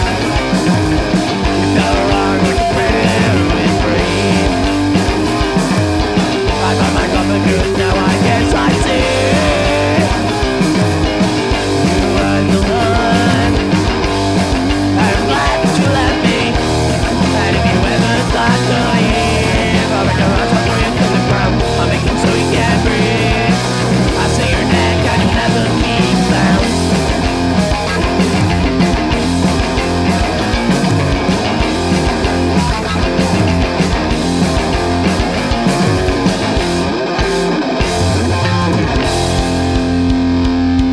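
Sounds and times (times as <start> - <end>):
electric guitar: 0.0 - 40.9
punk rock band playing live: 0.0 - 40.9.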